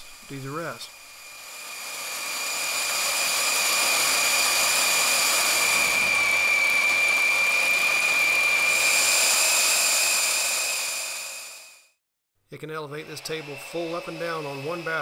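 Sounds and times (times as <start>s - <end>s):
cordless drill whining: 0.0s - 11.9s, 13.0s - 15.0s.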